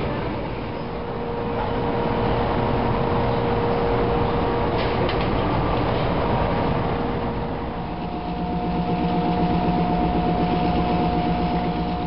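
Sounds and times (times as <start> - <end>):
higher electric motor hum: 0.0 - 12.0
workshop machinery rumbling: 0.0 - 12.0.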